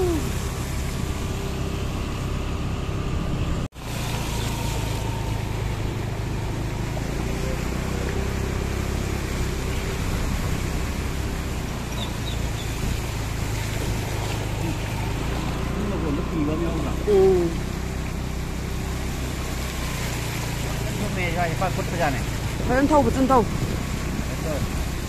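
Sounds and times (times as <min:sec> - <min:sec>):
floodwater rushing and splashing: 0:00.0 - 0:25.0.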